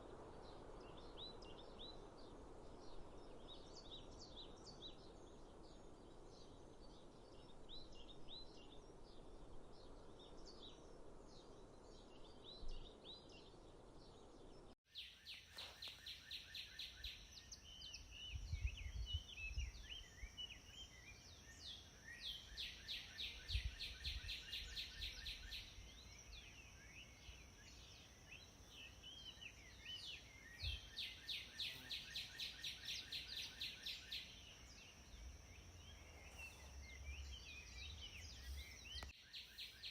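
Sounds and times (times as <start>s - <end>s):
small birds singing and chirping: 0.3s - 39.9s.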